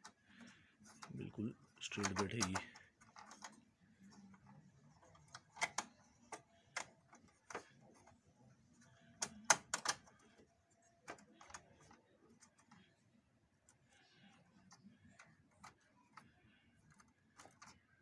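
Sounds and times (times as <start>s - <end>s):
plastic parts clicking and tapping: 0.0s - 13.0s, 13.6s - 18.0s.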